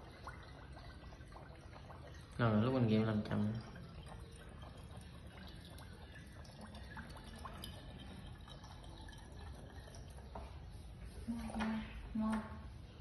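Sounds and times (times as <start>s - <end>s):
wine trickling into glass bottle: 0.0s - 12.9s.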